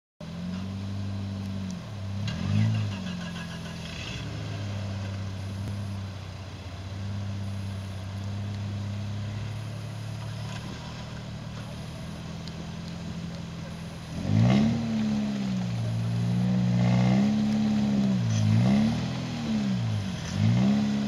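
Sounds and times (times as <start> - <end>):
engine revving: 0.2 - 21.0
off-road vehicle engines running: 0.2 - 21.0.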